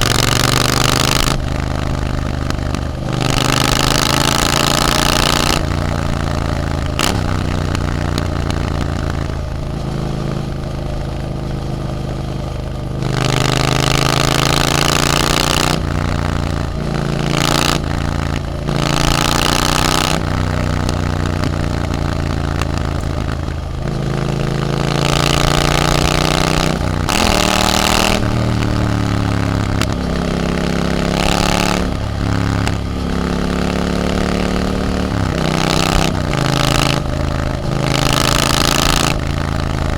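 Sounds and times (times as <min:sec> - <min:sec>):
motorcycle engine revving while riding: 0:00.0 - 0:39.9.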